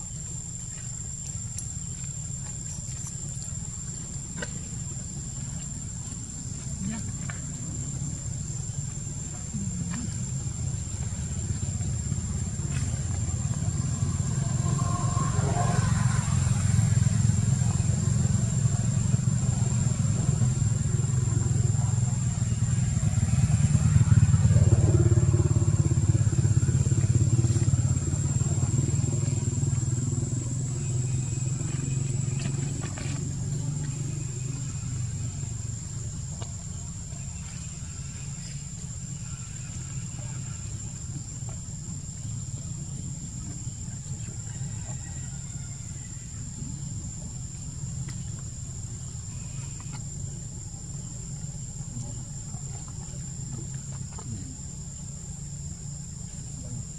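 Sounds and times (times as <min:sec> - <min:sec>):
high insect drone: 0:00.0 - 0:56.9
motorbike engine humming: 0:04.3 - 0:56.9.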